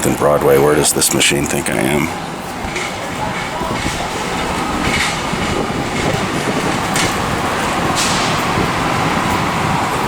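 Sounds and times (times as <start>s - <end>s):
passing vehicles rumbling: 0.0s - 10.0s.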